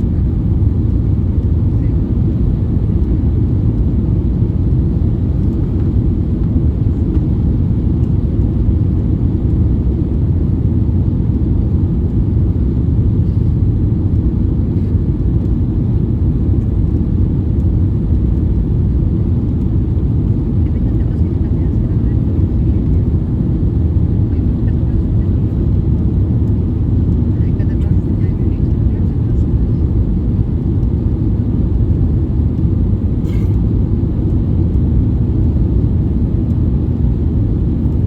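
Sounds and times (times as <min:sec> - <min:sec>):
airplane cabin engine rumble: 0:00.0 - 0:38.0.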